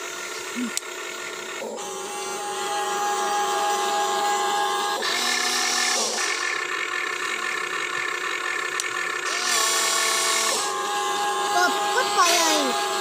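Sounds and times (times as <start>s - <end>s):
lower motor whine: 0.0s - 13.0s
small electric motors whining: 0.0s - 13.0s.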